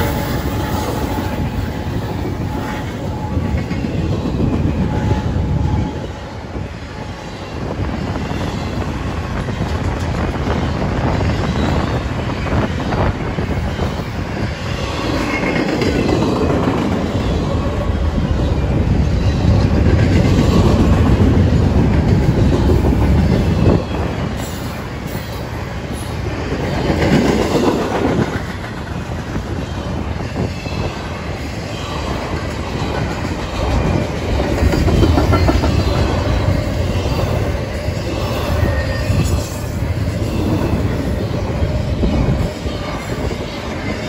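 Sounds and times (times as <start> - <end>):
freight train wheels rumbling: 0.0 - 44.0
wheels clacking on rails: 0.0 - 44.0.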